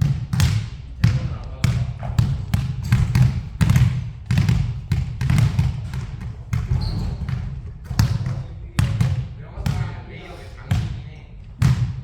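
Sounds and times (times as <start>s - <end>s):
basketball bouncing: 0.0s - 10.0s, 10.7s - 12.0s.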